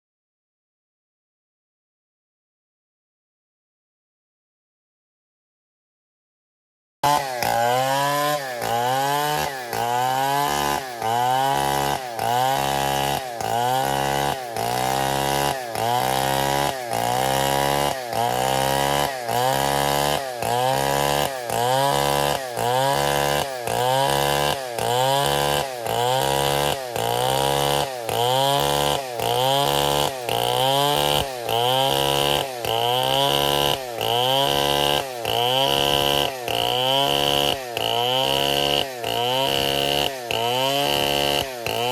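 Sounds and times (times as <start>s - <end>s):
chainsaw cutting wood: 7.0s - 41.9s.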